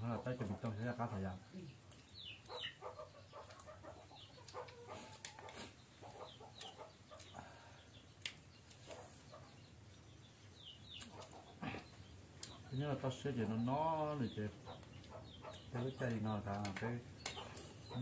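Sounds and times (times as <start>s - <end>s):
faint chickens clucking: 0.0s - 18.0s.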